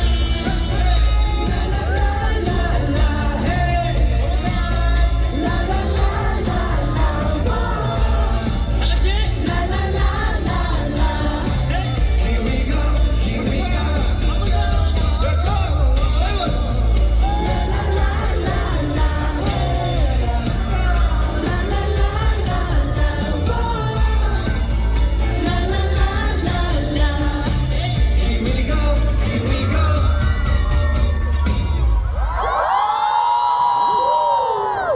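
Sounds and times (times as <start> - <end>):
man singing: 0.0 - 31.4
pop track with heavy bass: 0.0 - 34.9.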